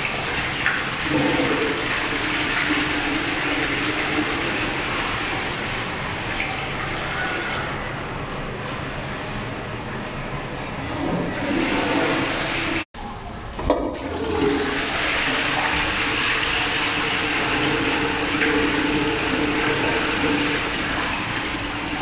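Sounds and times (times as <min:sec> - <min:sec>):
toilet flushing water rushing: 0:00.0 - 0:08.9, 0:10.8 - 0:12.9, 0:13.6 - 0:22.0.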